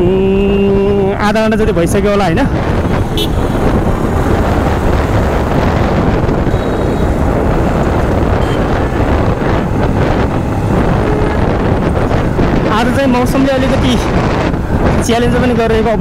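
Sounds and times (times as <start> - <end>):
road and engine noise: 0.0 - 16.0
wind rushing over microphone: 0.0 - 16.0.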